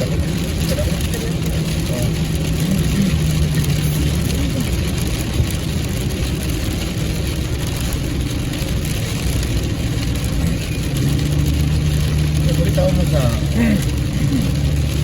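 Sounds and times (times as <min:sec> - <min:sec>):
car engine running: 0:00.0 - 0:15.0
road and rain hiss: 0:00.0 - 0:15.0.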